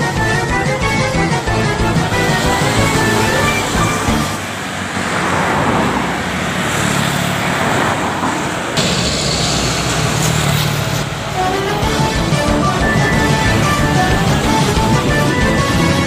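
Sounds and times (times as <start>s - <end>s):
low engine drone: 0.0s - 6.5s, 8.7s - 16.0s
motorcycles passing: 0.0s - 16.0s
road traffic passing: 0.0s - 16.0s.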